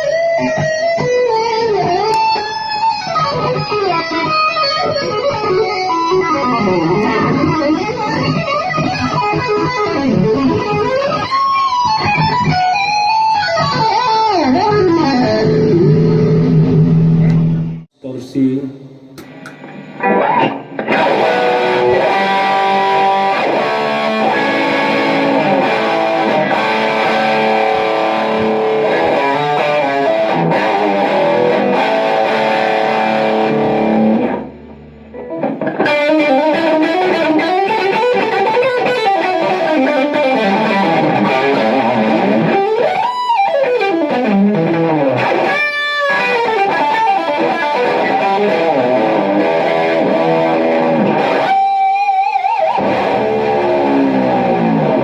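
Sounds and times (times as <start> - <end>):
distorted electric guitar: 0.0 - 55.0.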